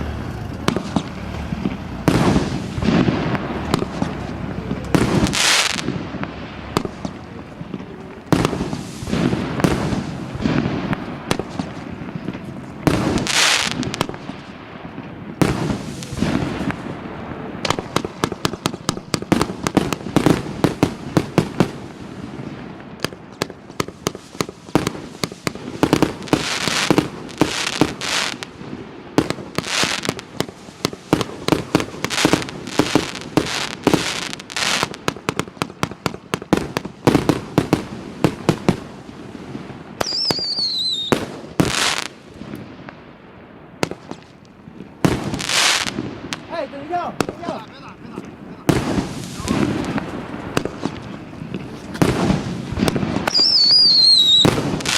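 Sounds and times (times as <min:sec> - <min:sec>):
firework launch reports: 0:00.0 - 0:42.6, 0:43.8 - 0:54.9
crackling firework bursts: 0:00.0 - 0:54.9.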